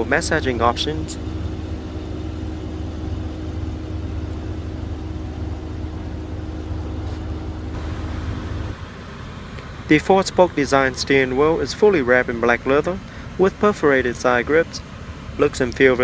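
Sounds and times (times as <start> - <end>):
car cabin mechanical hum: 0.0 - 16.0.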